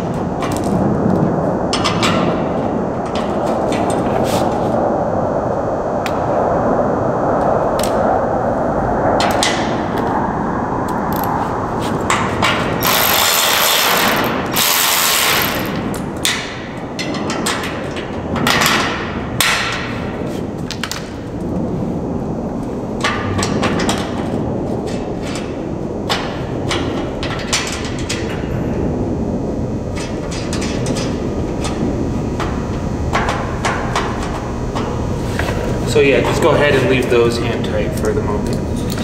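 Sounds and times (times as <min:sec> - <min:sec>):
steady background noise: 0:00.0 - 0:39.0.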